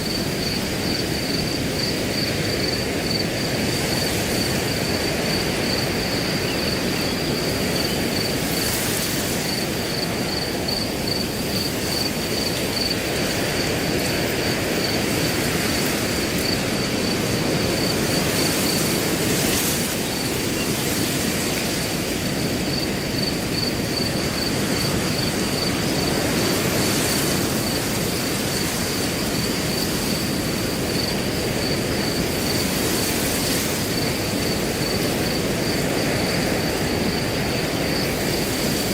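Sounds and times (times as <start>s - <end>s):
cricket chirping: 0.0s - 38.9s
wind blowing through grass: 0.0s - 38.9s.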